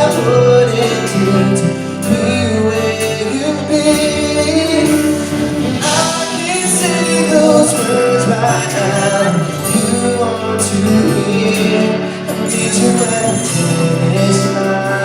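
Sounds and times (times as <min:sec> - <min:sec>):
band playing ballad: 0:00.0 - 0:15.0.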